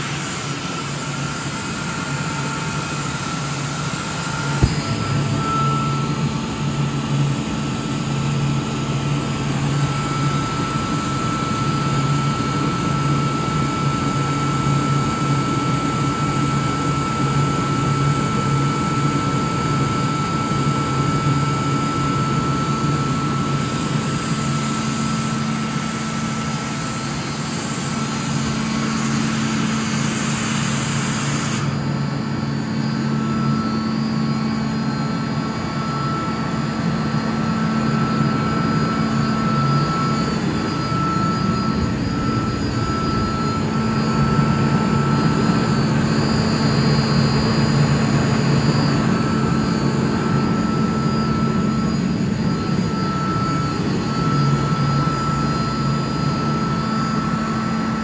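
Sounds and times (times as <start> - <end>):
air compressor whine: 0.0 - 58.0.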